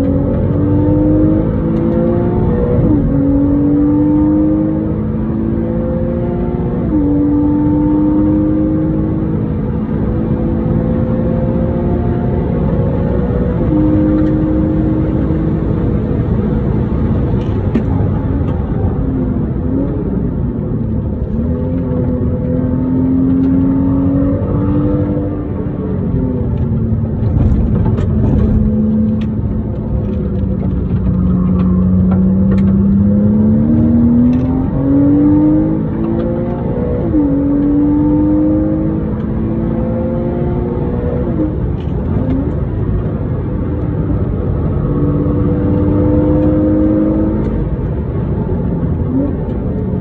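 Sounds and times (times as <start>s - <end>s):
car engine revving: 0.0s - 50.0s
tyre and road noise: 0.0s - 50.0s.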